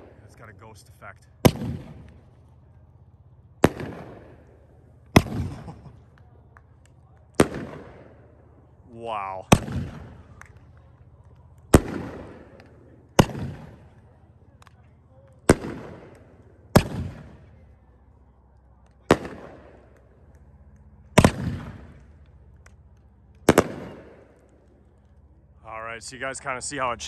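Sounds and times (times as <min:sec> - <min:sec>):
fireworks bangs: 0:00.0 - 0:02.6, 0:03.5 - 0:17.8, 0:18.9 - 0:24.8.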